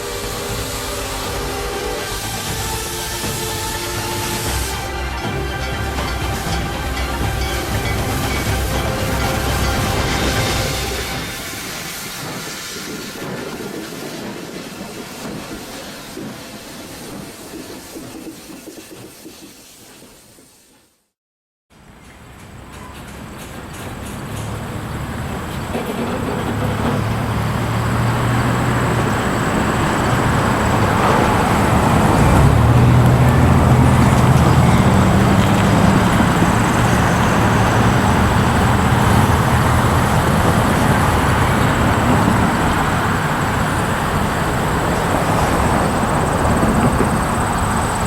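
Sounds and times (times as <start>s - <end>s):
diesel locomotive engine drone: 0.0s - 18.3s, 21.8s - 48.0s
freight train rumble: 0.0s - 20.3s, 21.8s - 48.0s.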